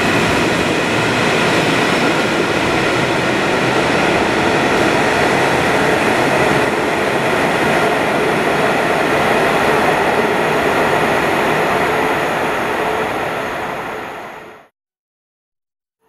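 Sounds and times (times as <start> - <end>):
train wheels rushing on rail: 0.0 - 14.7.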